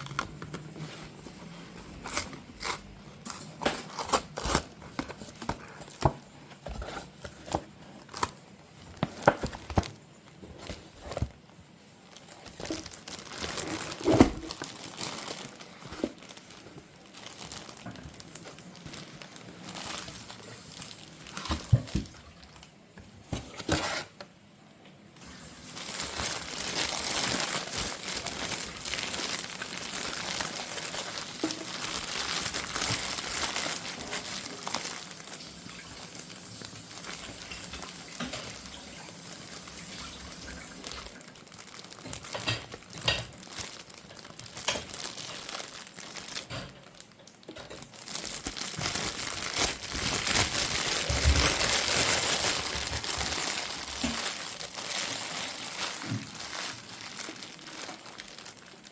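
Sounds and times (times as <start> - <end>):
packaging crinkling: 0.0 - 24.3, 25.2 - 58.9.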